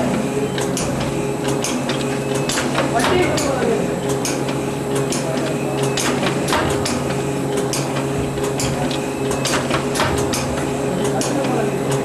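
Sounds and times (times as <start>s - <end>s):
packaging machine hum: 0.0s - 12.0s.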